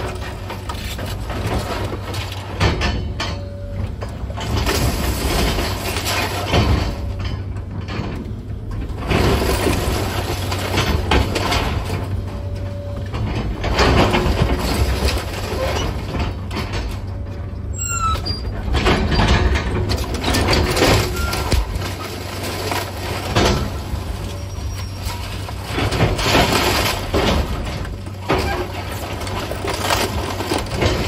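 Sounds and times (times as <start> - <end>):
demolition debris crunching: 0.0 - 31.0
excavator diesel engine drone: 0.0 - 31.0.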